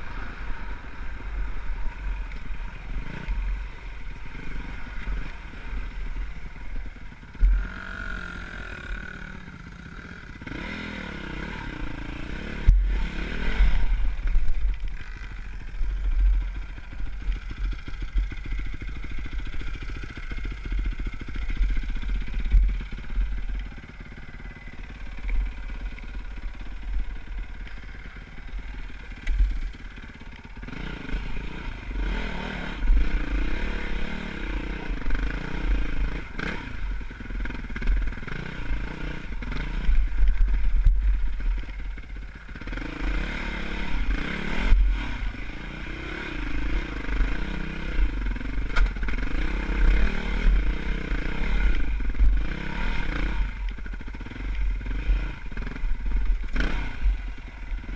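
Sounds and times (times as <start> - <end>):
dirt bike engine revving: 2.9 - 14.4, 15.0 - 57.9.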